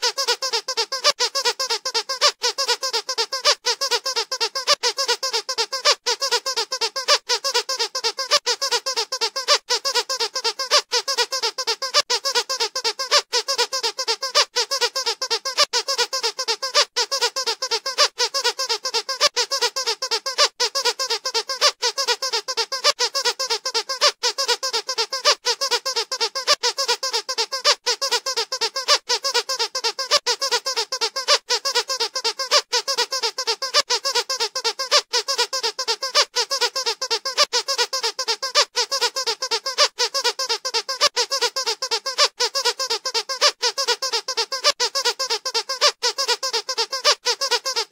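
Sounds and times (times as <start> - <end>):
squeaky dog toy squeaking: 0.0 - 47.9.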